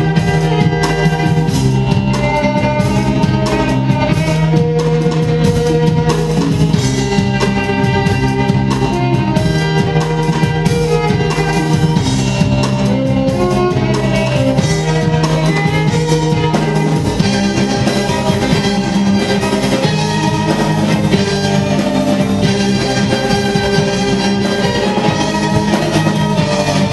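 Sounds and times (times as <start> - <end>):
symphonic rock music: 0.0 - 26.9.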